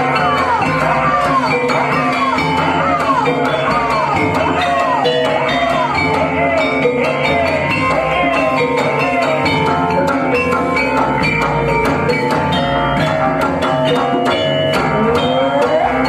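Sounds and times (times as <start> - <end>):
drum strokes: 0.0 - 16.0
gamelan music: 0.0 - 16.0.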